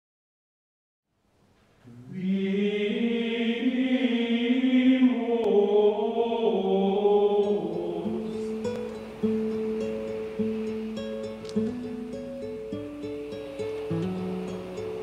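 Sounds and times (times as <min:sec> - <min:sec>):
chant-like voices music: 0:01.8 - 0:15.0.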